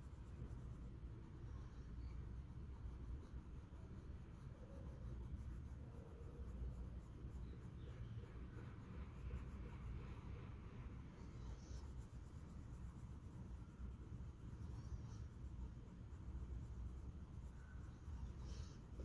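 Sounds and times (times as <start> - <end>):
pencil scratching on paper: 0.0 - 19.0.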